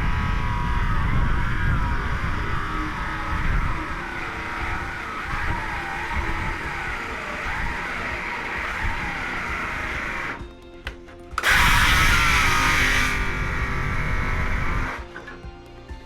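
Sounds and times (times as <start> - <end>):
power saw cutting wood: 0.0 - 10.5, 11.3 - 15.4
clicks: 2.1 - 15.5.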